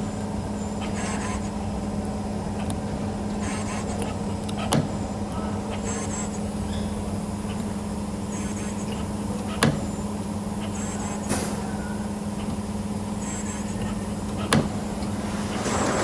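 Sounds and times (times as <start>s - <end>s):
machine motor hum: 0.0s - 16.0s.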